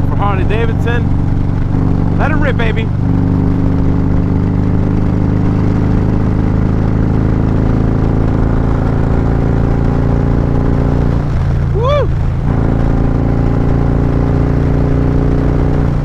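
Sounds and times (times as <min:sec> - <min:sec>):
motorcycle engine running at speed: 0:00.0 - 0:16.0.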